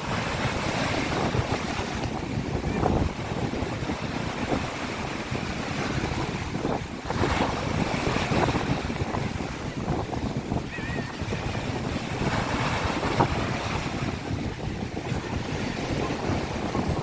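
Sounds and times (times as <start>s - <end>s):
waves washing onto shore: 0.0s - 17.0s
wind rumbling on microphone: 0.0s - 17.0s.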